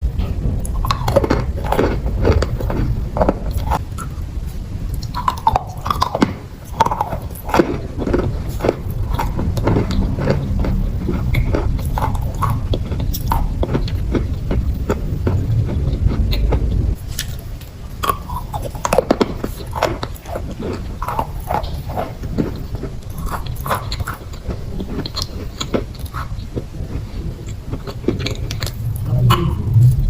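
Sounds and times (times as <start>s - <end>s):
person crunching and chewing chalk: 0.0s - 30.0s
steady low rumble: 0.0s - 30.0s.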